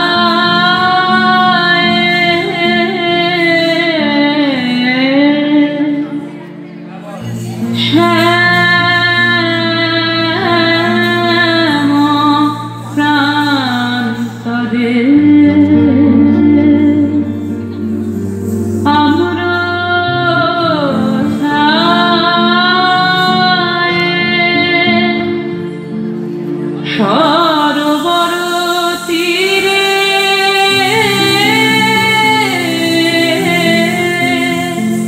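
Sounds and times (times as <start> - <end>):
low instrumental accompaniment: 0.0 - 35.0
woman singing slow melody: 0.0 - 35.0.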